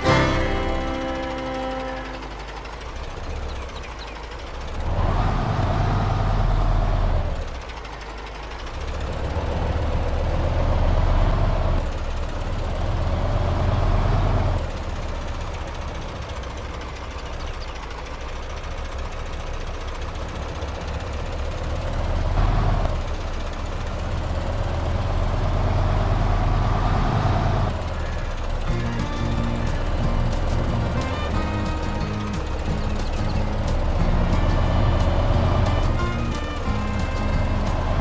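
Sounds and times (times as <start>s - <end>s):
model machine engine rumble: 0.0s - 38.0s.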